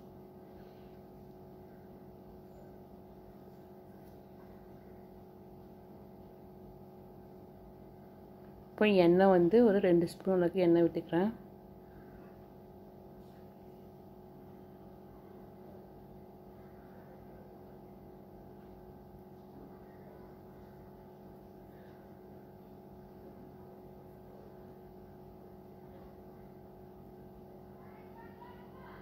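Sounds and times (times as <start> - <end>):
steady multi-tone hum: 0.0 - 29.0.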